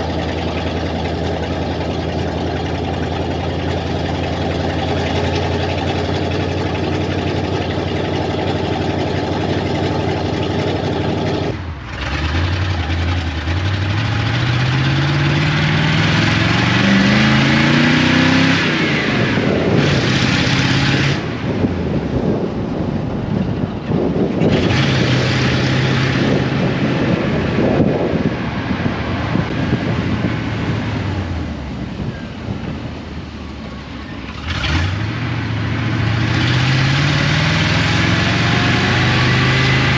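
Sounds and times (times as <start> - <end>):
pickup truck engine accelerating: 0.0 - 39.9
road and wind noise: 0.0 - 39.9.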